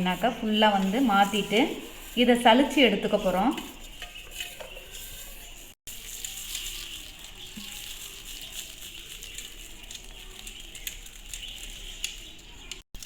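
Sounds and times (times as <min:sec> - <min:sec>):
eggshell rattling through a sieve: 0:00.0 - 0:13.0.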